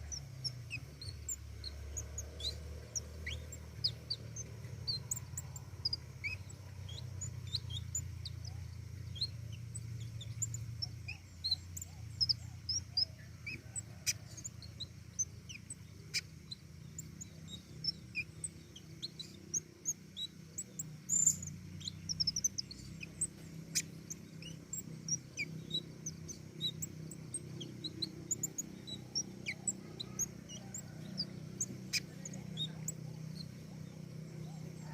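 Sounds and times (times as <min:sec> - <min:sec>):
small bird singing: 0:00.0 - 0:34.9
steady low hum: 0:00.0 - 0:34.9.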